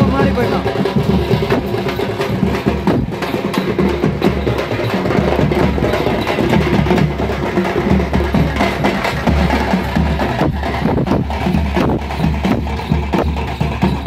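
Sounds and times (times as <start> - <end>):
deep drum beats: 0.0 - 14.0
frame drums beaten with sticks: 0.0 - 14.0.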